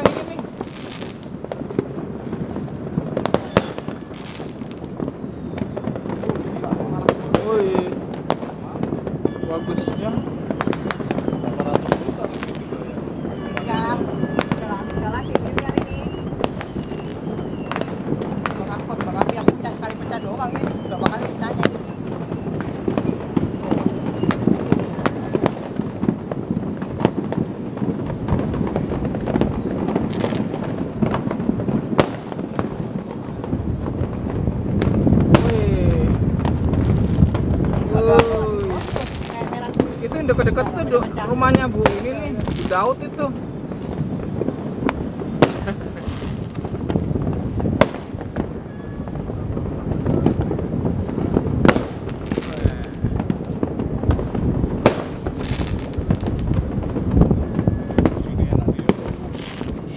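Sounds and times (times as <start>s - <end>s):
firework hiss: 0.0s - 59.9s
fireworks crackling and banging: 0.0s - 59.9s.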